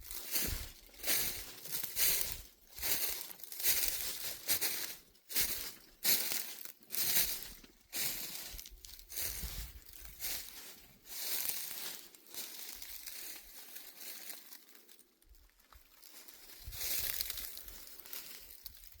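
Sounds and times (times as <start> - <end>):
footsteps on dry leaves: 0.0 - 19.0.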